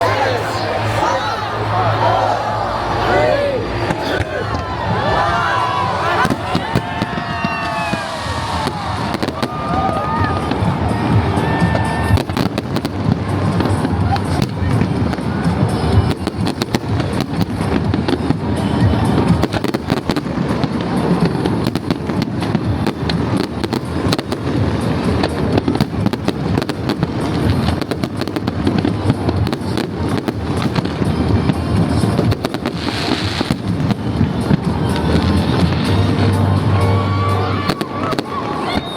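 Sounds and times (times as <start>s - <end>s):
fireworks bangs and crackles: 3.6s - 38.9s.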